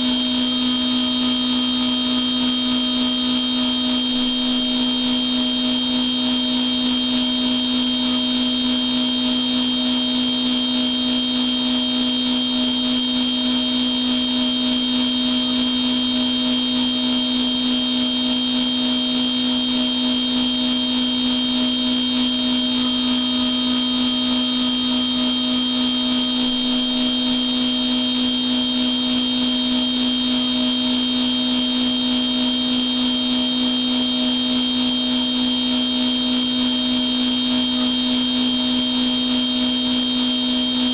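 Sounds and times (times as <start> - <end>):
high machine whine: 0.0 - 40.9.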